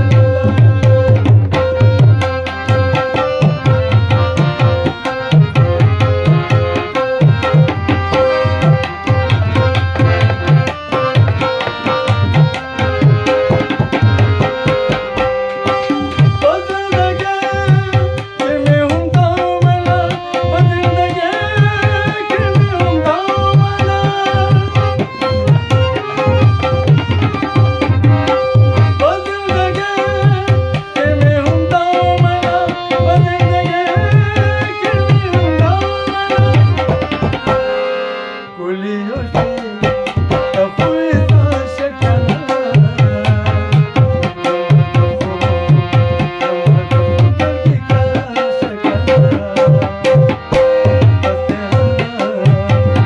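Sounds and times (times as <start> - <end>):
hand drum rhythm: 0.0 - 38.3, 39.2 - 53.0
harmonium melody over drone: 0.0 - 53.0.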